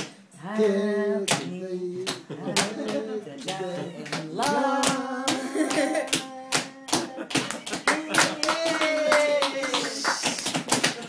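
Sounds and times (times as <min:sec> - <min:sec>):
hands clapping in rhythm: 0:00.0 - 0:00.2, 0:01.2 - 0:11.0.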